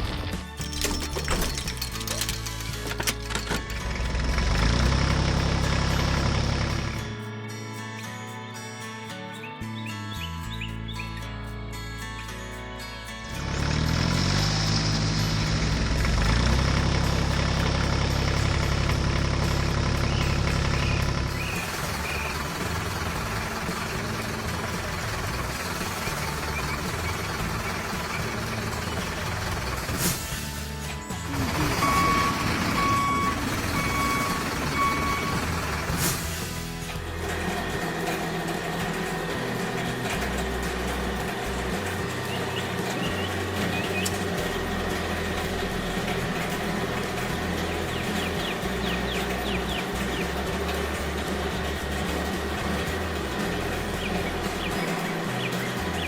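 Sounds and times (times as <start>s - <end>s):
heavy machine engine idling: 0.0s - 7.2s, 13.3s - 56.0s.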